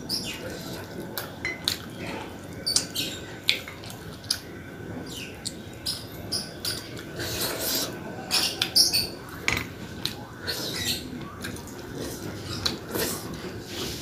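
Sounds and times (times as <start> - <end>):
person chewing wetly: 0.3 - 4.5, 6.6 - 14.0.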